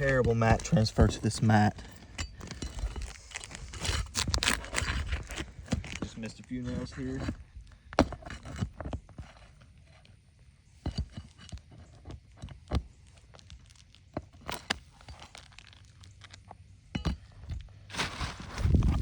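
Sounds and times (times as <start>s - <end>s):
pry tool scraping nails: 0.0s - 10.2s, 10.9s - 15.9s
shingles crackling and tearing: 0.0s - 10.2s, 11.1s - 16.6s.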